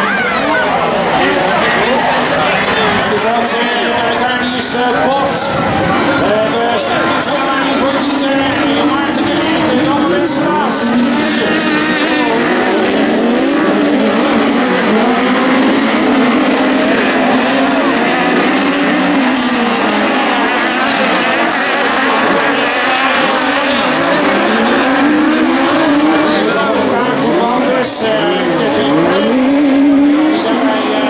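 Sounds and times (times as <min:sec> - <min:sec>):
racing buggy engines revving: 0:00.0 - 0:31.0.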